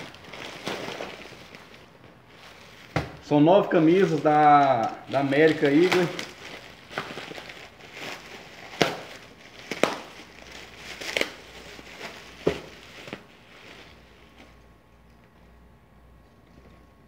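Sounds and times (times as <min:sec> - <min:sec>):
plastic bag crinkling: 0:00.0 - 0:14.6.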